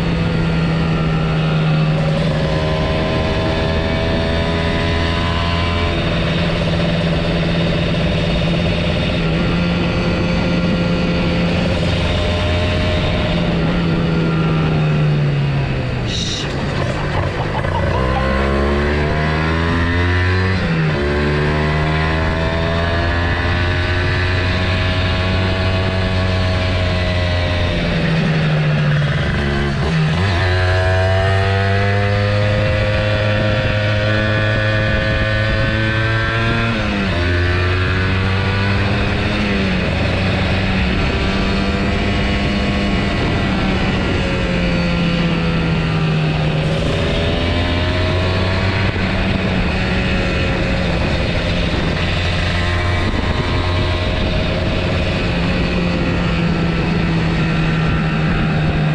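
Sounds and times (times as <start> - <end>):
motorcycle engine revving: 0.0 - 58.9
wind noise: 0.0 - 58.9.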